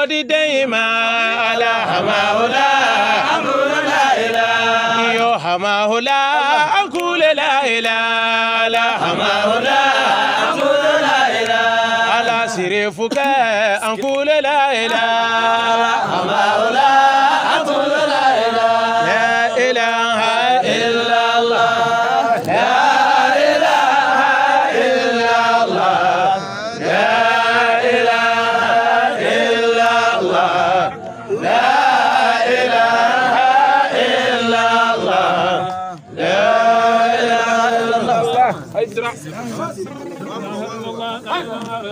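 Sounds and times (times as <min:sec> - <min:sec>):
man chanting melodically: 0:00.0 - 0:41.9.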